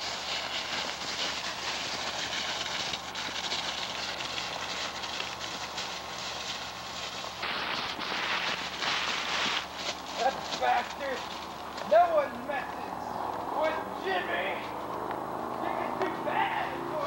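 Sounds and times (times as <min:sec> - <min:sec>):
footsteps crunching dry leaves: 0:00.0 - 0:17.0.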